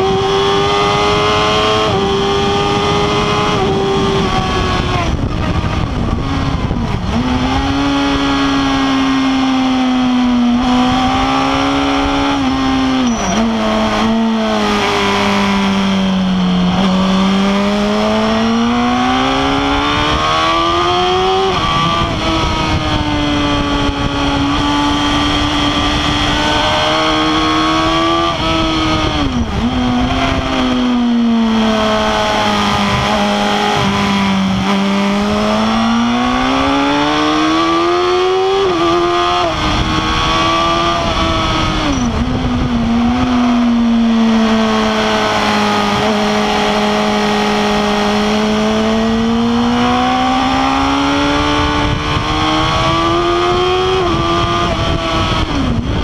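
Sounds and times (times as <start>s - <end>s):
motorcycle engine revving hard: 0.0s - 56.0s.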